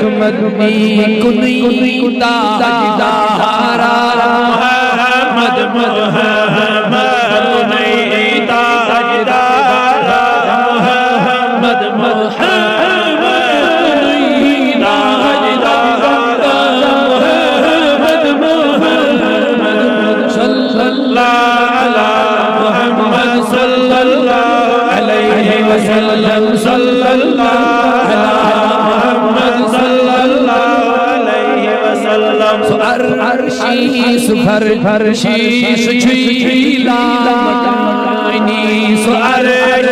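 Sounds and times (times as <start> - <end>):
man chanting: 0.0 - 39.9.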